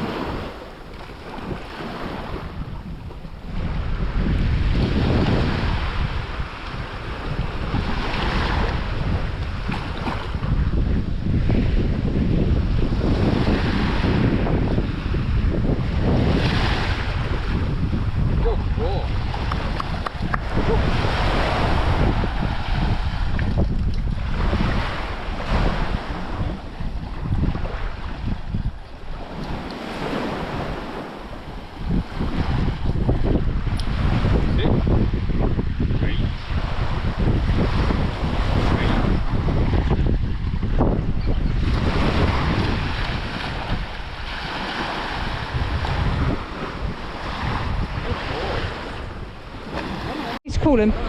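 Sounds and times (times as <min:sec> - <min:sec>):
sea water washing: 0:00.0 - 0:51.0
wind buffeting microphone: 0:00.0 - 0:51.0.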